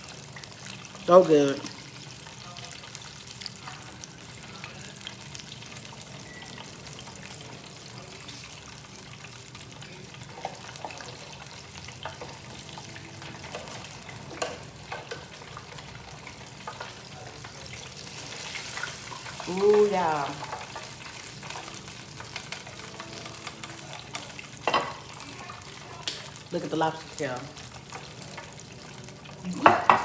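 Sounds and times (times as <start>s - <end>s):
seafood frying in hot oil: 0.0s - 30.0s.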